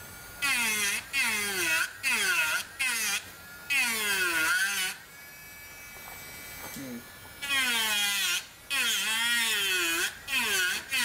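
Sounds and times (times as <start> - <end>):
rotary tool carving wood: 0.0 - 11.0.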